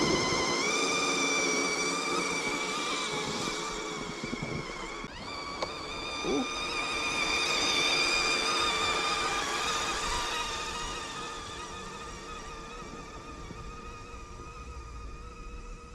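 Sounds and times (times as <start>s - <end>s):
rc truck electric motor whine: 0.0s - 15.9s.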